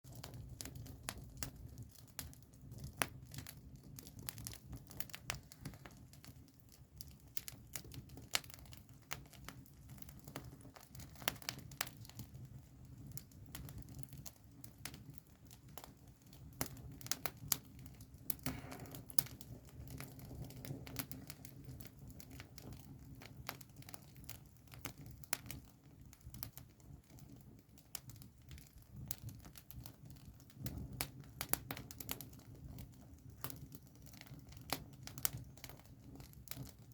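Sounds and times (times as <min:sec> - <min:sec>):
campfire crackling and popping: 0:00.1 - 0:36.9.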